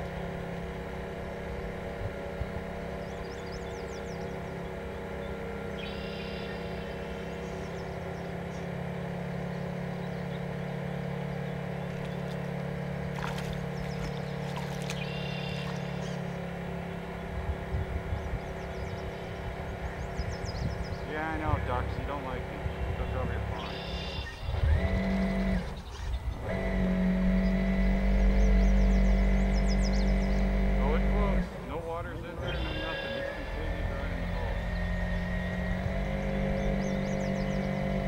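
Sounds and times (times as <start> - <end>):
model ship motor humming: 0.0 - 38.0.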